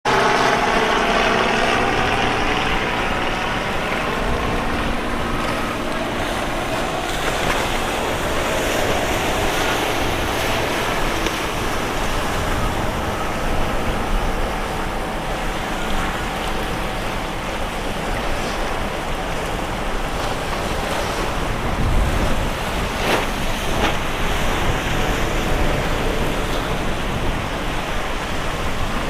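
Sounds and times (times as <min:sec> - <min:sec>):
boat engine hum: 0:00.0 - 0:29.0
water rushing: 0:00.1 - 0:29.0
wind noise on microphone: 0:00.1 - 0:29.0.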